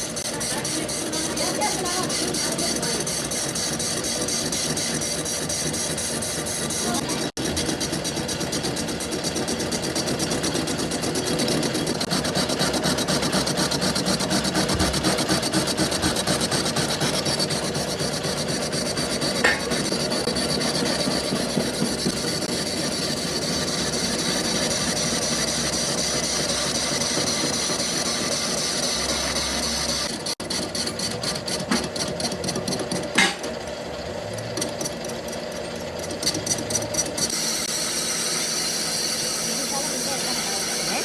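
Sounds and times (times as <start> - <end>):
machinery grinding noise: 0.0 - 41.0.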